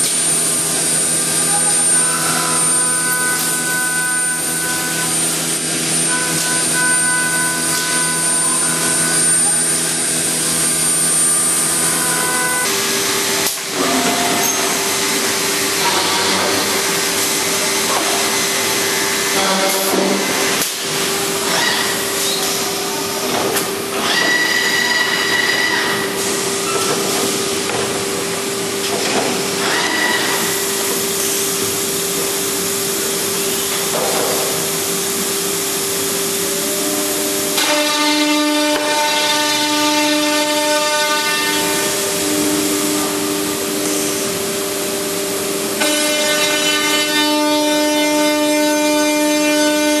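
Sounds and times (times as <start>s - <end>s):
woodworking machine whine: 0.0s - 50.0s.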